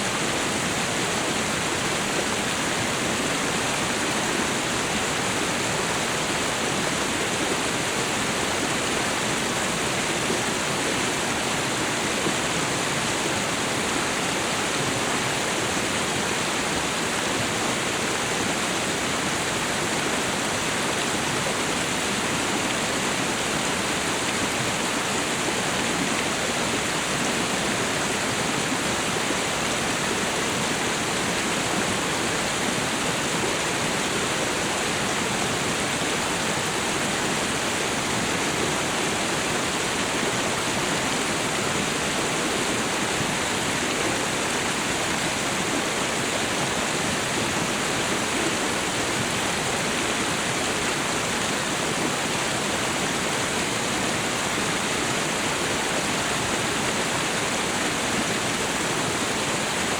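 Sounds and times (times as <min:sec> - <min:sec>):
waterfall and river rushing: 0:00.0 - 0:59.9.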